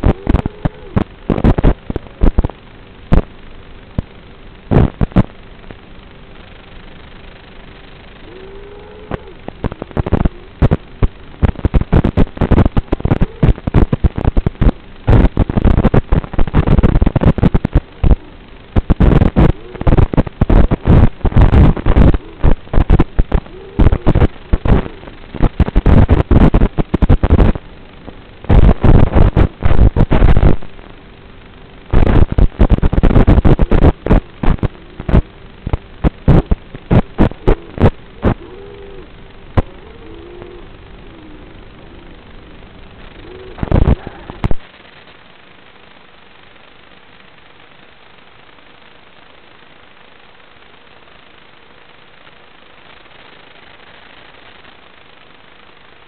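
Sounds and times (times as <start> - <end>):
crackling static: 0.0 - 56.0
steady hum: 0.0 - 56.0.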